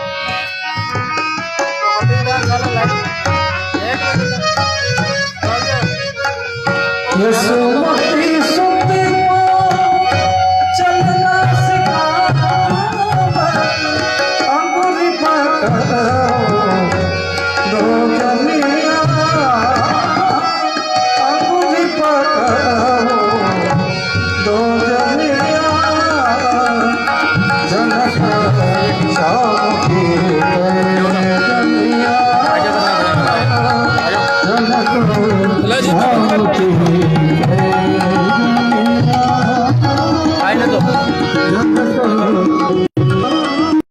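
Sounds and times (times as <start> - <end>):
hand drum: 0.0 - 43.8
person singing folk song: 7.1 - 43.8.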